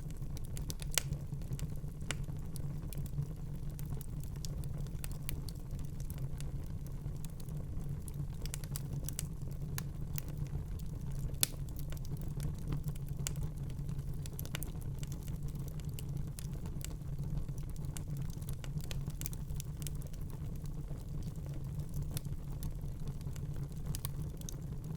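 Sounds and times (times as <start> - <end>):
low rumble of flames: 0.0 - 24.9
wood fire popping and snapping: 0.0 - 24.9.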